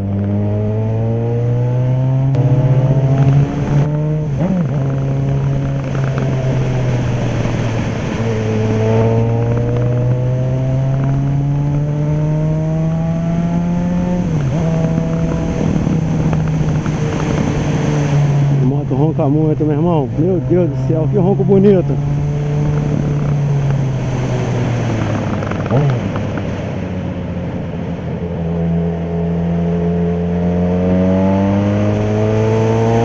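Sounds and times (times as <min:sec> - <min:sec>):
motorcycle engine accelerating hard: 0:00.0 - 0:33.0.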